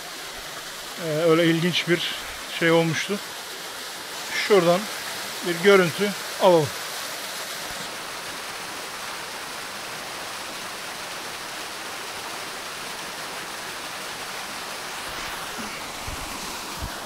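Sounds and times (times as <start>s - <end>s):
small waterfall splashing: 0.0s - 17.0s.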